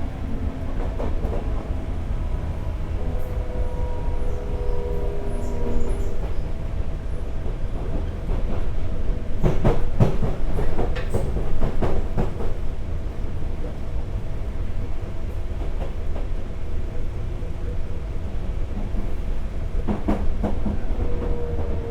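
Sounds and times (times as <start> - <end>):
train running rumble: 0.0 - 21.9.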